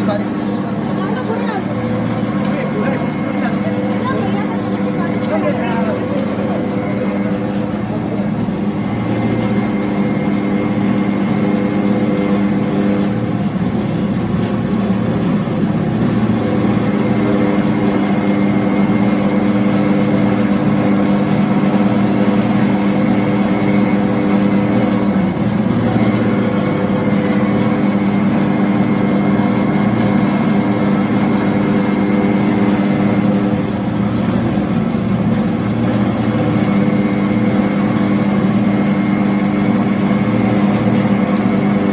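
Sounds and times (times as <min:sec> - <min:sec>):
grinding mill humming: 0:00.0 - 0:41.9.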